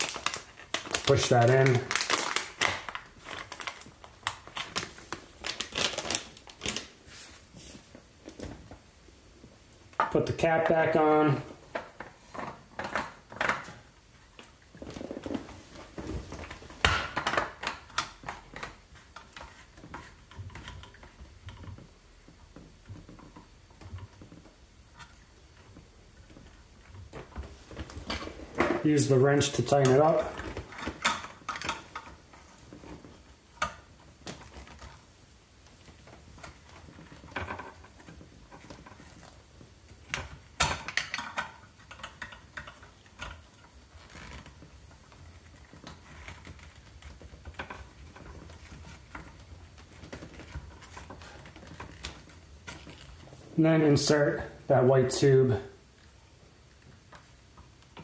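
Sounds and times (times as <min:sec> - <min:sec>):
plastic handling: 0:00.0 - 0:53.6.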